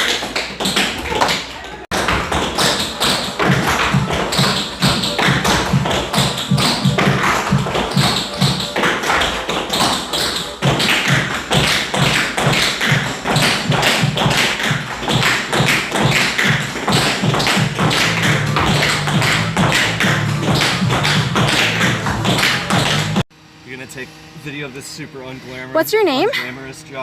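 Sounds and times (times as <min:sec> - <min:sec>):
tap shoes striking floor: 0:00.0 - 0:23.2
music: 0:01.9 - 0:23.2, 0:24.8 - 0:27.0.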